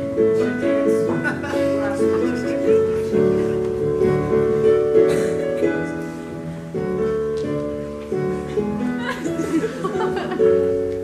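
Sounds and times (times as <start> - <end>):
slow held instrumental chords: 0.0 - 11.0.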